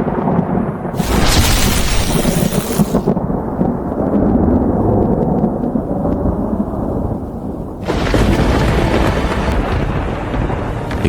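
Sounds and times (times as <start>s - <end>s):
thunder crackling and rumbling: 0.0s - 11.0s.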